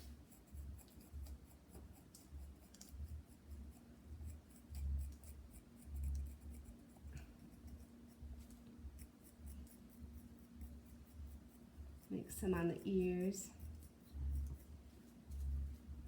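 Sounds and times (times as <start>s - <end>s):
tool scratching clay: 0.0s - 15.9s.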